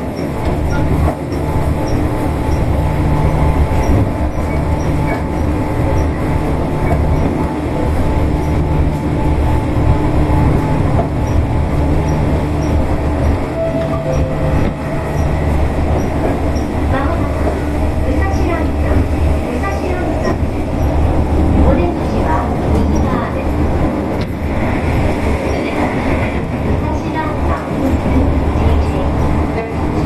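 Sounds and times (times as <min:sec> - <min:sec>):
train motor hum: 0:00.0 - 0:30.0
train wheels rumbling on rail: 0:00.0 - 0:30.0.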